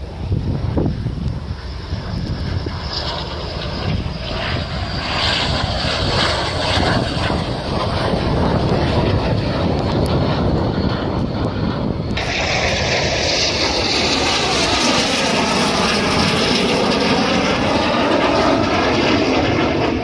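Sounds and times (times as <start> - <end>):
jet aircraft flying overhead: 0.0 - 20.0.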